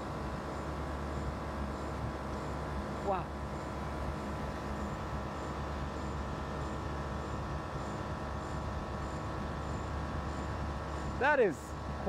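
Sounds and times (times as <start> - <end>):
car engine idling: 0.0 - 12.0
compressor mechanical hum: 0.0 - 12.0.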